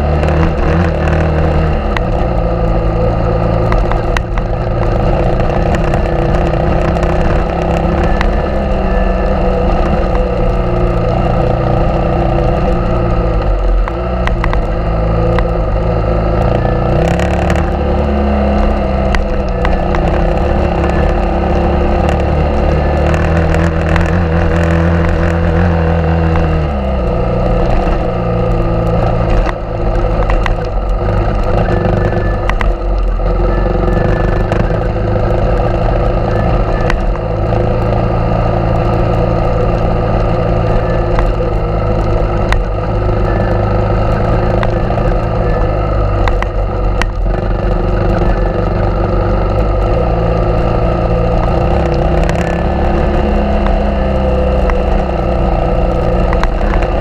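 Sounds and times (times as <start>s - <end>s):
motorcycle engine running: 0.0s - 57.0s
scattered clicks: 0.2s - 57.0s.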